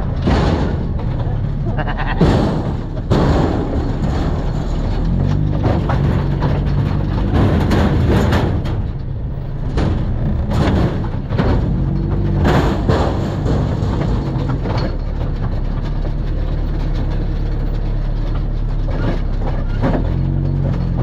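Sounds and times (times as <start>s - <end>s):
off-road vehicle engine running: 0.0s - 21.0s.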